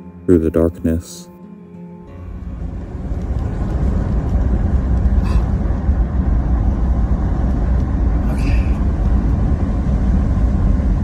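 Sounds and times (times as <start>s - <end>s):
car road and engine rumble: 2.1s - 11.0s.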